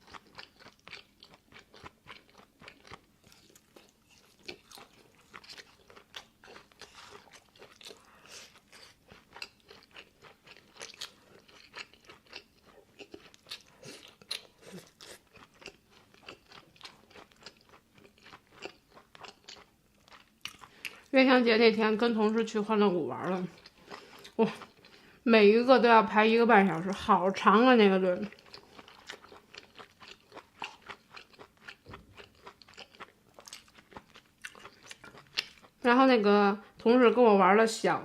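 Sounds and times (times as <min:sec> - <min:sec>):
person chewing crunchy food: 0:00.0 - 0:21.2, 0:23.2 - 0:25.2, 0:28.2 - 0:35.8.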